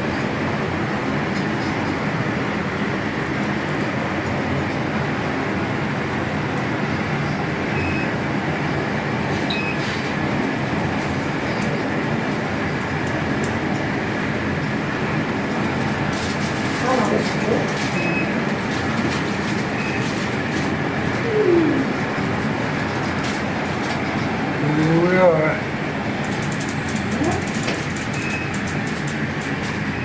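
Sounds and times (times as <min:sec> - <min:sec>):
elevator rushing rumble: 0:00.0 - 0:30.0.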